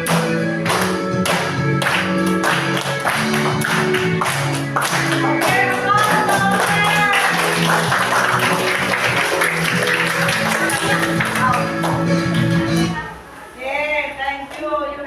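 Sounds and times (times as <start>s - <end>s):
music with steady beat and bass: 0.0s - 13.1s.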